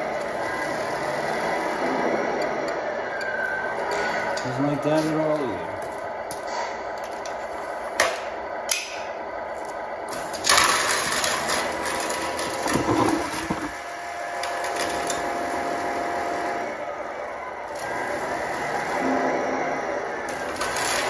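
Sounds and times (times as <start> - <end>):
toy truck electric motor whine: 0.0 - 6.1, 9.4 - 21.0.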